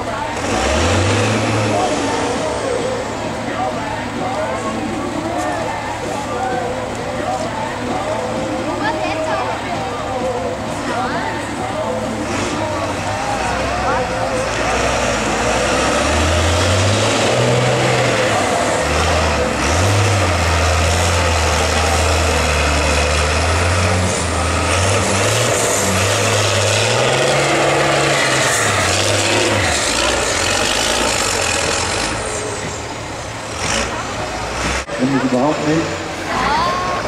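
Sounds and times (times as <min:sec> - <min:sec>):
diesel truck engine labouring: 0:00.0 - 0:37.0.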